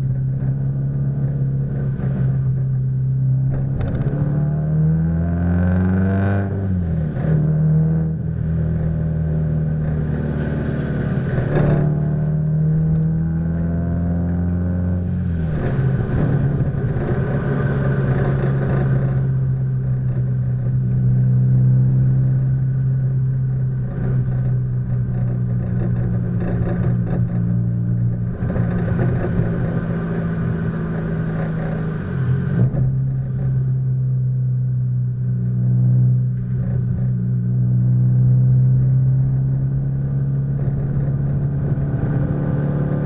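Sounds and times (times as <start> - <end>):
muffled car engine drone: 0.0 - 43.0.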